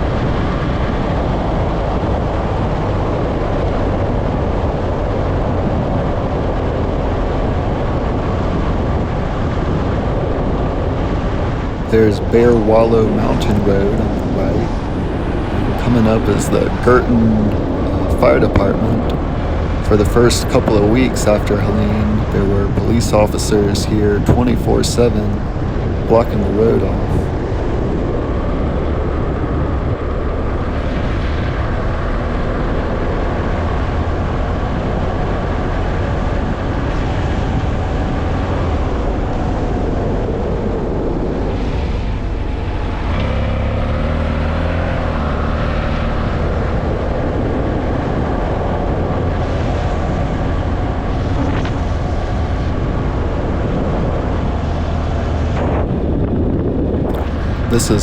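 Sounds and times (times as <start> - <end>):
road noise: 0.0 - 58.0
vehicle engine: 0.0 - 58.0.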